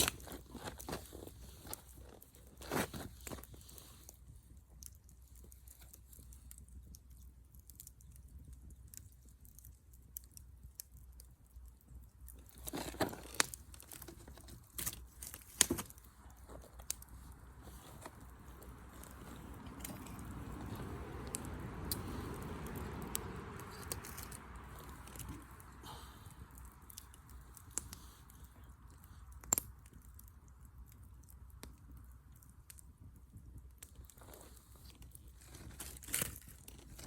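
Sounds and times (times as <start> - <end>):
small crunches and clicks: 0.0 - 37.0.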